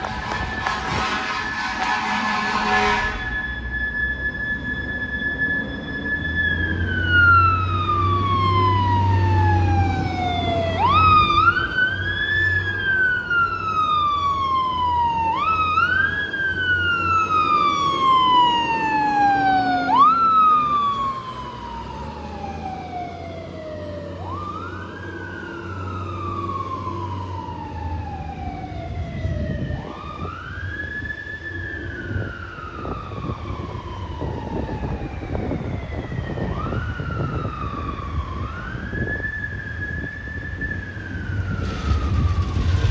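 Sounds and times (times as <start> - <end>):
mechanical siren wailing: 0.0 - 42.9.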